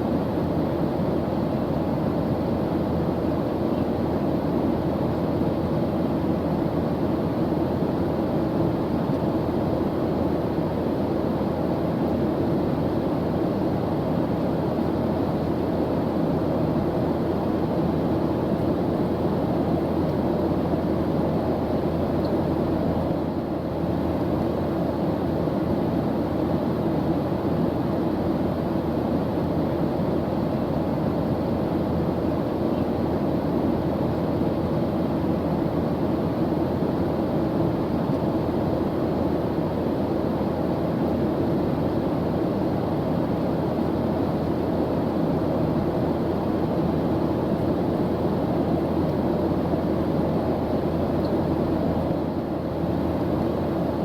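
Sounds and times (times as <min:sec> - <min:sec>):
airplane engine drone: 0:00.0 - 0:54.0.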